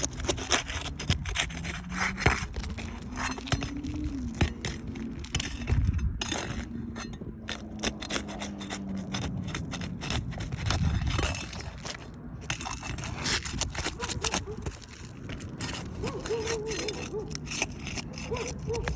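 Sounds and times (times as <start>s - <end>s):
roof shingles scraping and tearing: 0.0s - 18.9s.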